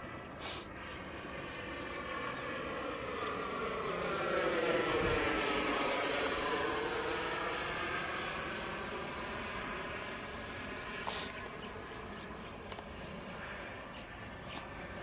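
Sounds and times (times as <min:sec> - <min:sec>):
model jet fan whining: 0:00.0 - 0:15.0.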